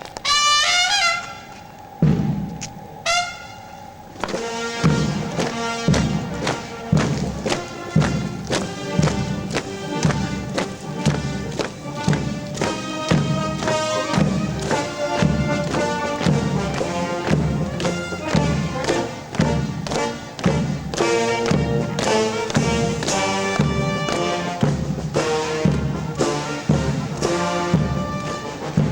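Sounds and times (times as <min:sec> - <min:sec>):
brass melody: 0:00.2 - 0:01.8, 0:03.0 - 0:28.9
bass drum beat: 0:04.2 - 0:28.9.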